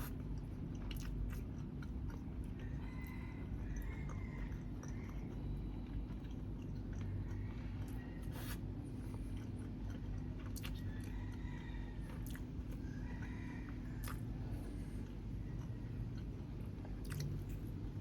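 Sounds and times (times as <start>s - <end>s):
chewing and biting food: 0.0s - 18.0s
steady low hum: 0.0s - 18.0s.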